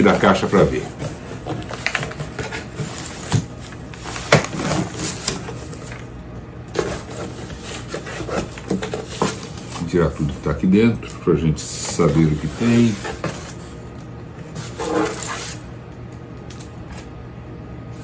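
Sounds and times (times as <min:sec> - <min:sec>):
cardboard and foam rustling: 0:00.0 - 0:06.1, 0:06.7 - 0:15.7.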